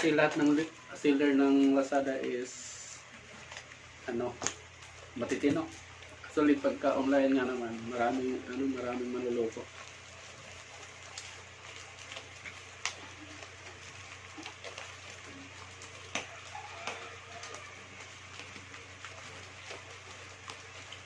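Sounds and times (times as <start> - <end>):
packaging crinkling: 0.0 - 21.0.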